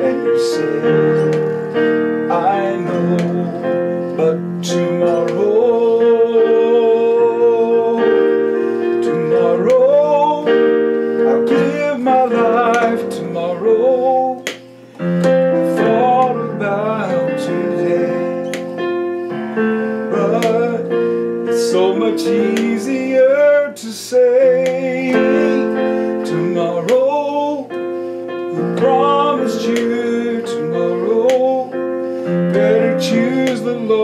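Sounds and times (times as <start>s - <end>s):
electronic keyboard gospel ballad: 0.0s - 34.0s
man singing: 0.0s - 34.0s.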